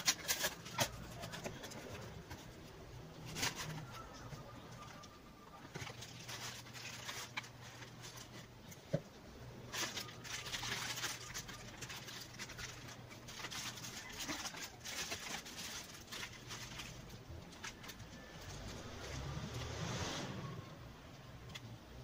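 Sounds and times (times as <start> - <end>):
plastic packaging crinkling: 0.0 - 8.9, 9.6 - 19.0.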